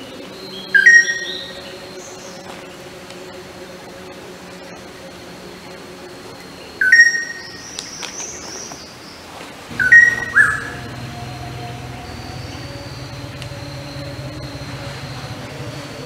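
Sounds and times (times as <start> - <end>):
bird calling: 0.0 - 16.0
steady background hum: 0.0 - 16.0.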